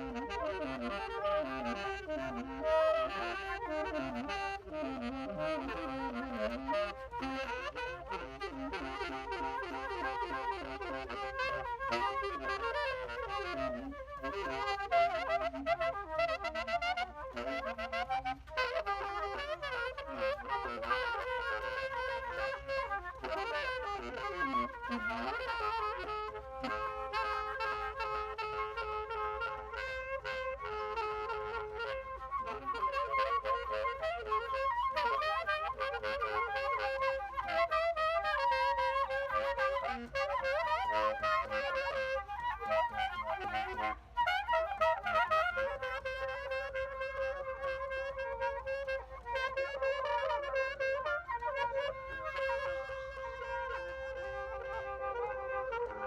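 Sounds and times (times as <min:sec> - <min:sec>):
wind instruments playing: 0:00.0 - 0:56.0.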